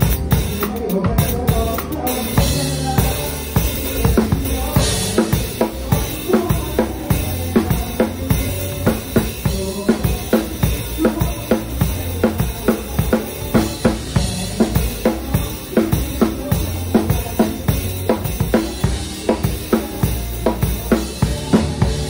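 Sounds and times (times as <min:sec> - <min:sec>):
drum kit playing rock beat: 0:00.0 - 0:22.0
recorded pop-rock song: 0:00.0 - 0:22.0.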